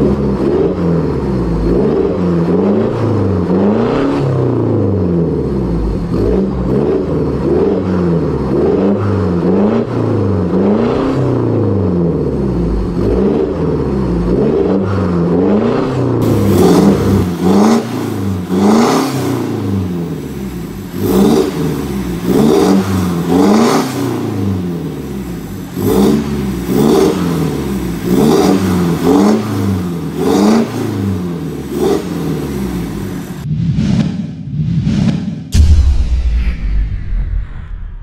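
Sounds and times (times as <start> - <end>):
diesel engine revving: 0.0 - 33.5.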